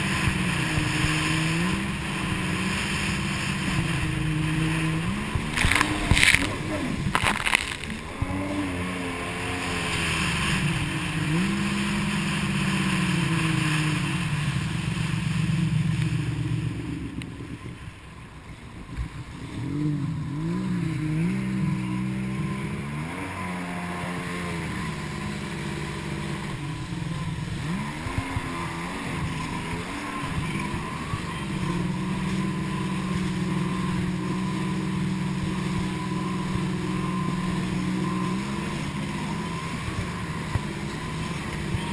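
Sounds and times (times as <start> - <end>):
jet ski engine: 0.0 - 41.9
rushing water and spray: 0.0 - 41.9.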